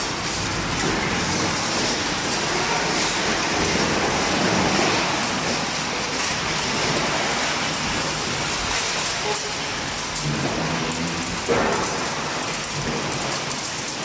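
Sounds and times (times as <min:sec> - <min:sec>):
shredder grinding metal: 0:00.0 - 0:14.0.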